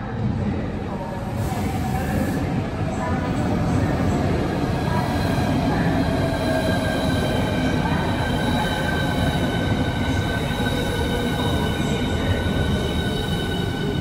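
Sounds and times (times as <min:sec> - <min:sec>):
train wheels rumbling on rail: 0:00.2 - 0:14.0.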